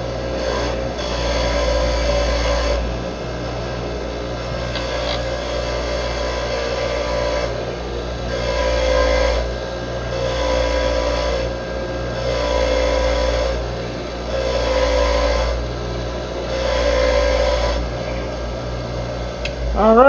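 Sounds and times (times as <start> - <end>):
power tool grinding metal: 0.0 - 20.0.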